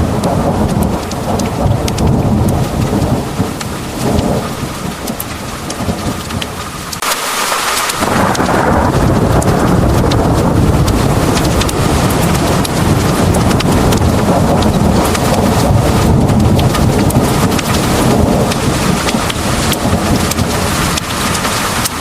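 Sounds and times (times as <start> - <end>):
rumble of thunder: 0.0 - 7.0, 7.9 - 22.0
heavy rain pouring: 0.0 - 22.0
raindrops ticking on hard surface: 0.0 - 22.0.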